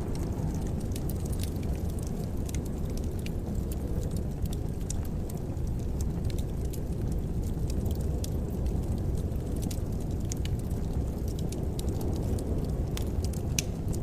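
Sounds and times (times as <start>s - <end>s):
fire burning in fireplace: 0.0s - 14.0s
fire crackles and pops: 0.0s - 14.0s.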